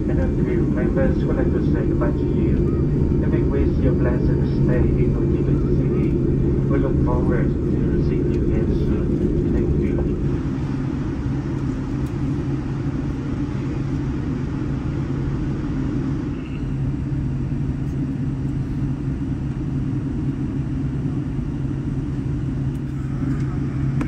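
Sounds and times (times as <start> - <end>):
aircraft cabin rumble and hum: 0.0 - 24.0.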